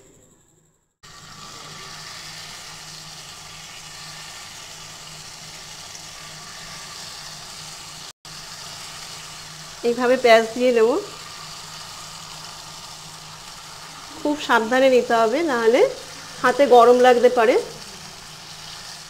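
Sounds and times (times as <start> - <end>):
batter sizzling in hot oil: 1.0 - 19.0.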